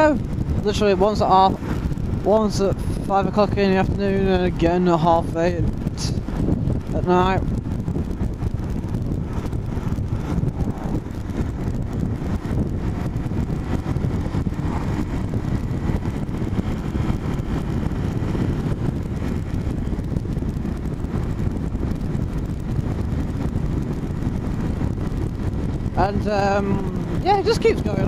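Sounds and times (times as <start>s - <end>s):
vehicle road and wind noise: 0.0s - 28.0s
wind buffeting microphone: 0.0s - 28.0s.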